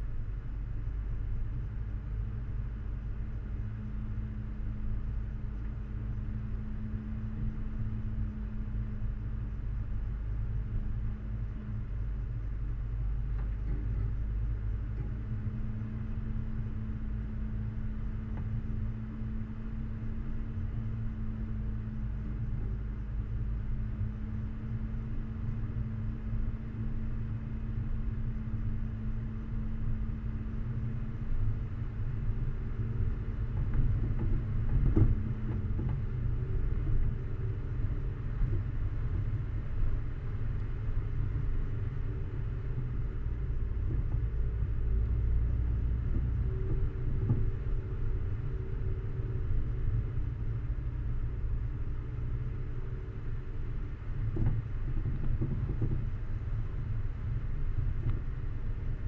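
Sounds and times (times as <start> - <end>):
vehicle rumbling over ruts: 0.0 - 59.0.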